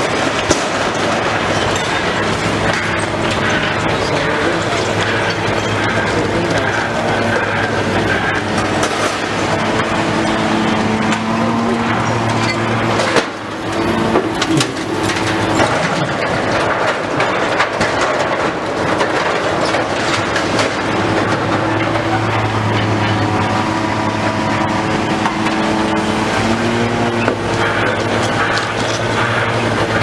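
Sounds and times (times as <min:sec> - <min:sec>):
debris crunching and clattering: 0:00.0 - 0:30.0
engine droning: 0:00.0 - 0:30.0.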